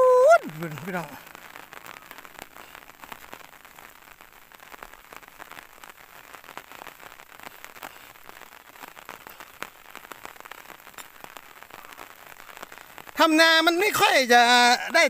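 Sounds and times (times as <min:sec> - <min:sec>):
rain hiss: 0:00.0 - 0:15.0
raindrops ticking: 0:00.0 - 0:15.0.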